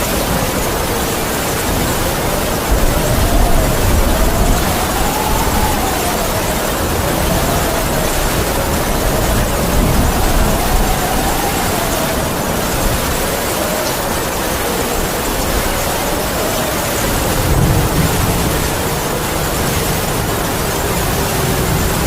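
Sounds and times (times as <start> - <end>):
heavy rain falling: 0.0 - 22.0
wind howling: 0.0 - 22.0.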